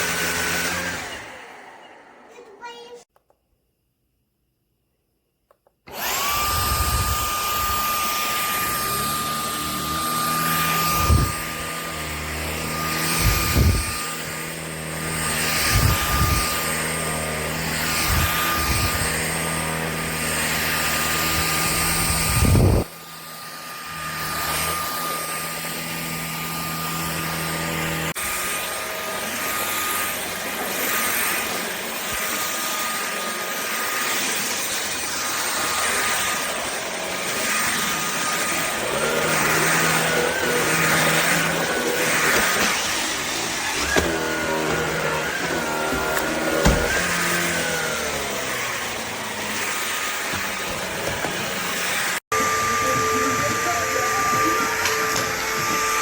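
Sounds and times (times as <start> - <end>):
vacuum cleaner whine: 0.0 - 3.0, 5.9 - 56.0.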